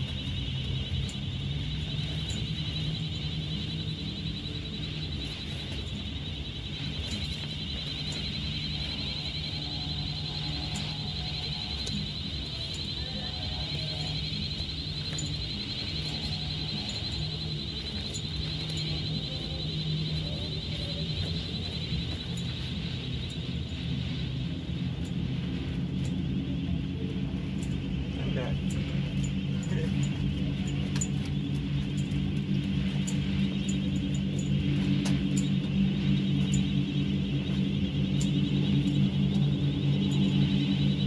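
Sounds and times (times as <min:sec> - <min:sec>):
low motor hum: 0:00.0 - 0:41.0
warbling high-pitched alarm: 0:00.0 - 0:41.0.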